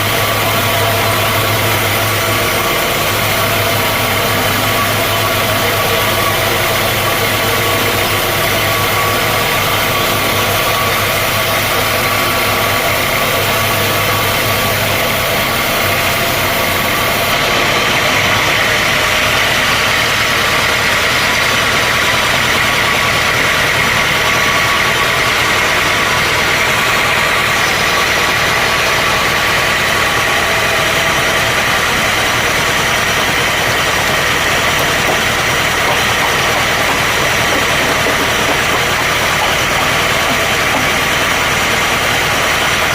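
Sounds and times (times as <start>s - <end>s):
high machine whine: 0.0s - 42.9s
sawmill machinery drone: 0.0s - 42.9s.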